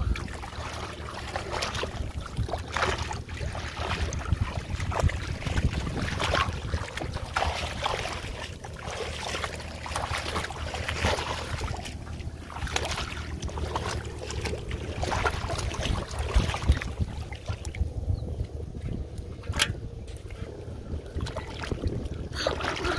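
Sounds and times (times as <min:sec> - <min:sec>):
muddy water splashing: 0:00.0 - 0:22.9
wind rumble on microphone: 0:00.0 - 0:22.9.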